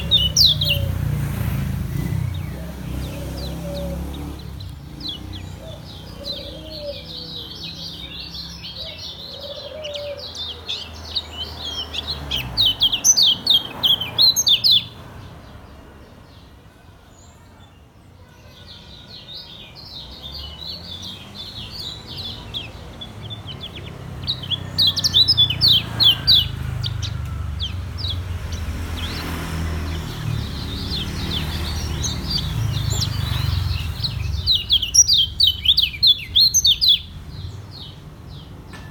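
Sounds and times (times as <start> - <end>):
bird singing high sharp chirps: 0.0 - 15.1, 20.0 - 38.0.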